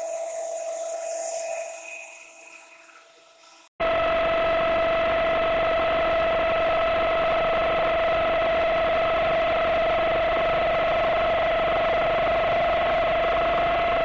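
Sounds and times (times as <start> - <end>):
milling spindle high whine: 0.0 - 14.0.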